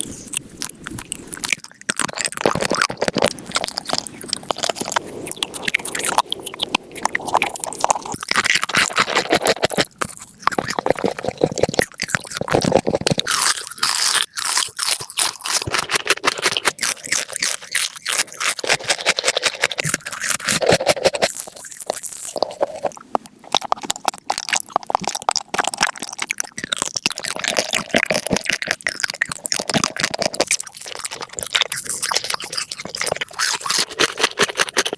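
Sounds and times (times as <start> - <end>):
crunching and chewing of hard food: 0.0 - 34.9.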